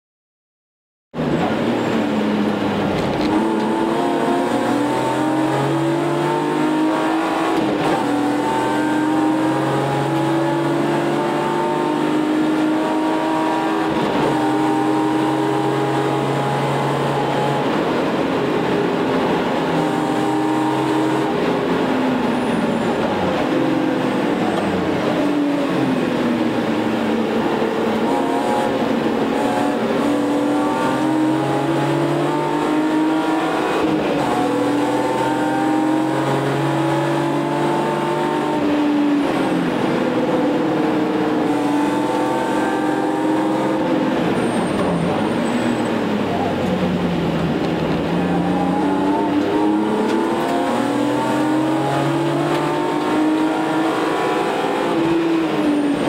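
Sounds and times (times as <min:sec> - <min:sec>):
car engine revving: 0:01.2 - 0:56.0.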